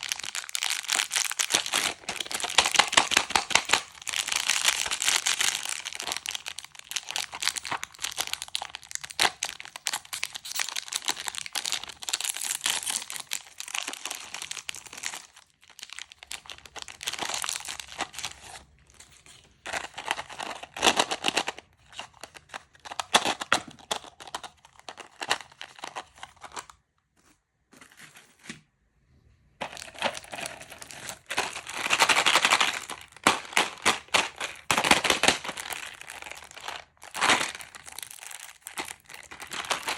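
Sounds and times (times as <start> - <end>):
plastic wrappers crinkling: 0.0 - 28.6, 29.6 - 39.9.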